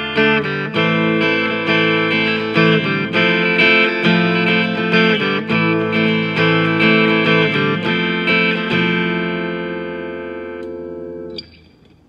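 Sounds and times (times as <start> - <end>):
electric guitar chords with reverb: 0.0 - 11.9.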